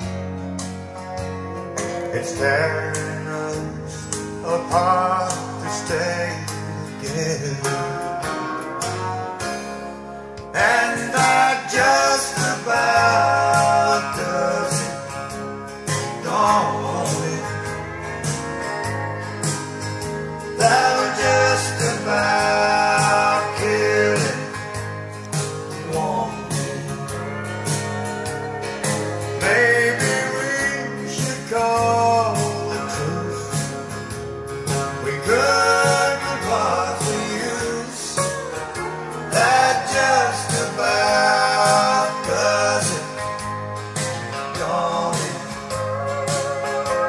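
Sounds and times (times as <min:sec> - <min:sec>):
pop song over speakers: 0:00.0 - 0:47.0.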